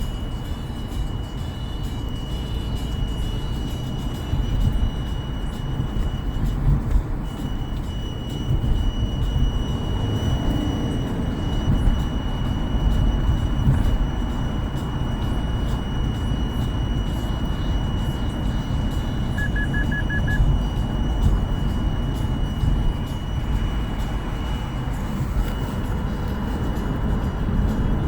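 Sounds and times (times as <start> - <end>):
blower motor rumble and whine: 0.0 - 28.0
quick beeps: 1.0 - 26.2.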